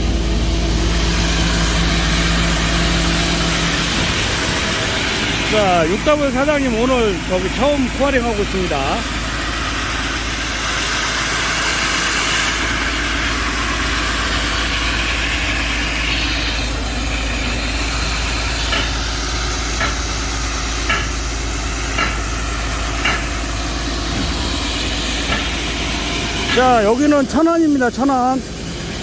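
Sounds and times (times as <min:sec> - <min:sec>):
excavator engine running: 0:00.0 - 0:29.0
hydraulic core drill coring rock: 0:00.0 - 0:29.0.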